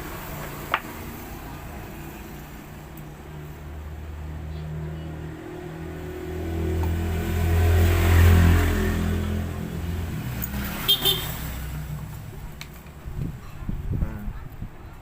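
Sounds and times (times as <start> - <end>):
vehicle engine rumbling: 0.0 - 14.8.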